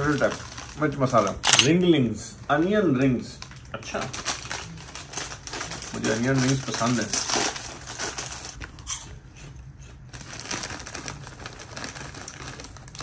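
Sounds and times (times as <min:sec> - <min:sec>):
plastic snack bag crinkling: 0:00.0 - 0:01.8, 0:03.2 - 0:08.9, 0:10.1 - 0:13.0.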